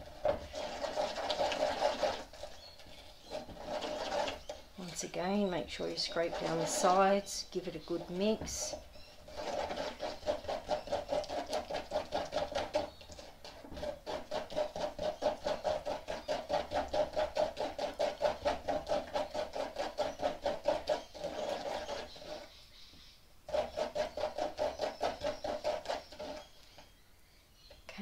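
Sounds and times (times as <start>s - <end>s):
stick stirring wet cement: 0.0s - 22.6s, 23.4s - 26.9s.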